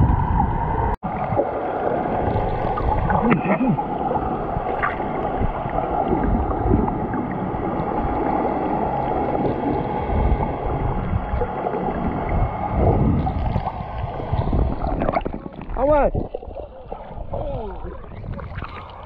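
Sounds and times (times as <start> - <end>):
muffled underwater water rushing: 0.0 - 19.0.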